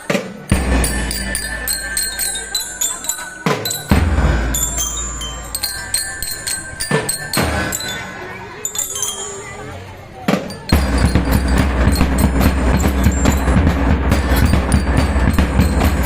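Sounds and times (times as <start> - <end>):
rapid drum strokes: 0.0 - 9.4, 10.3 - 16.0
bell lyres ringing: 0.0 - 16.0.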